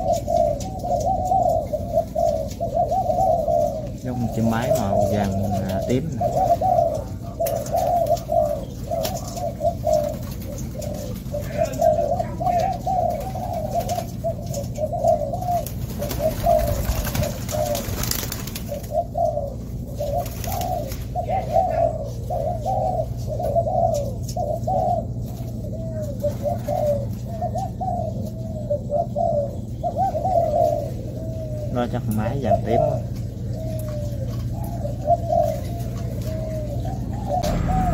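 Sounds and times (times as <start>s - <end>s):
doves cooing: 0.0s - 37.9s.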